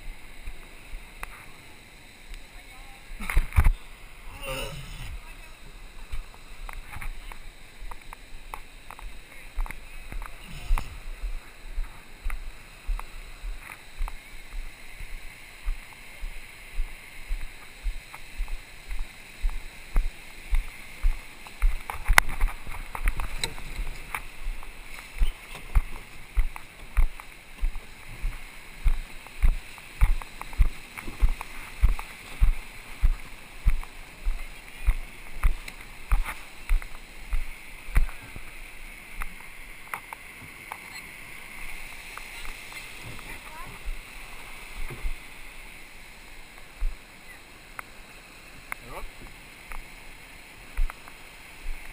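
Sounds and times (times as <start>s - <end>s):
water rushing past: 0.0s - 51.9s.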